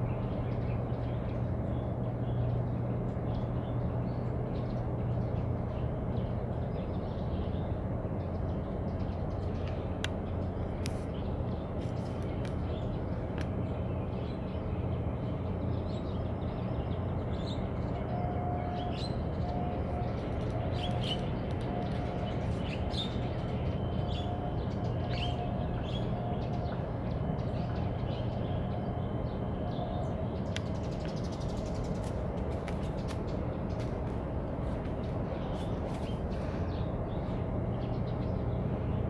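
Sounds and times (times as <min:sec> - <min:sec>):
small birds chirping: 0:00.0 - 0:39.0
steady low rumble: 0:00.0 - 0:39.0.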